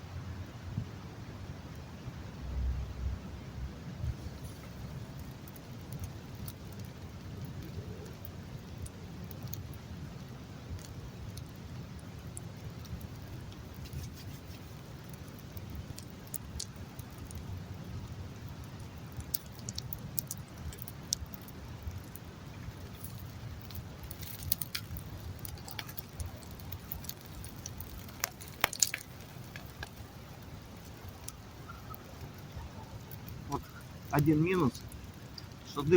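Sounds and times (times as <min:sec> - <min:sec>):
low fire rumble: 0:00.0 - 0:35.9
campfire crackling and popping: 0:00.3 - 0:35.9.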